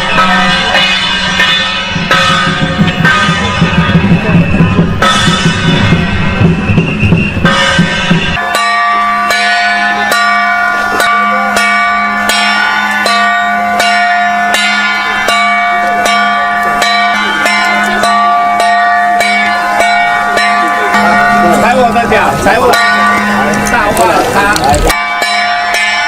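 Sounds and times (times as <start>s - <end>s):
drum-heavy band music: 0.0s - 25.3s
metal bells struck: 0.0s - 26.0s.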